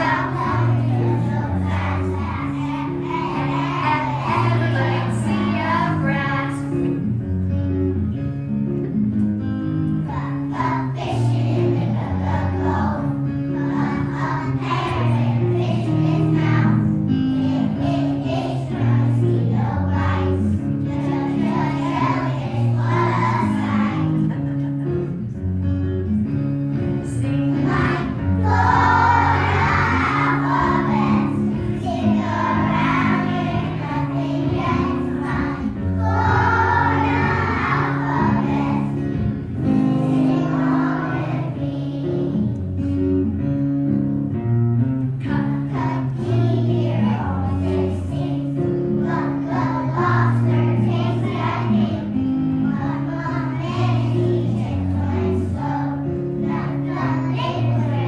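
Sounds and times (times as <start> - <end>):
children singing together: 0.0 - 7.0, 10.0 - 25.1, 27.2 - 42.6, 45.2 - 58.0
instrumental accompaniment: 0.0 - 58.0.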